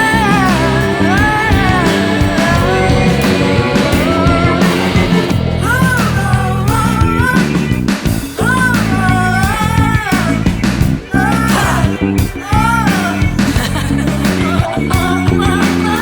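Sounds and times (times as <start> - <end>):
band music with swooping melody: 0.0 - 16.0.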